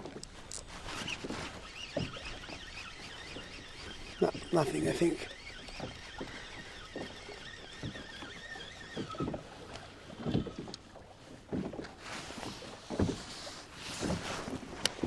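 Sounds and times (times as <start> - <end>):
small waves slapping kayak hull: 0.0 - 15.0.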